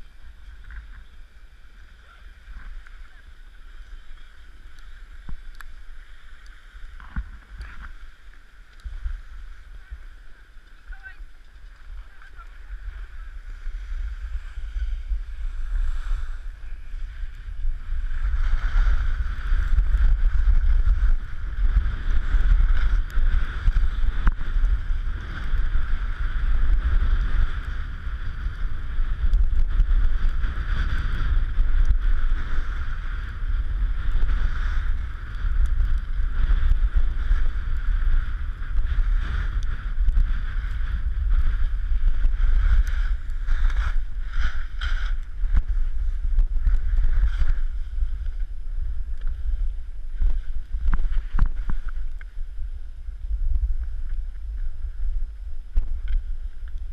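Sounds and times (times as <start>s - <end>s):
snowblades scraping on snow: 0.0s - 56.9s
wind buffeting microphone: 0.0s - 56.9s.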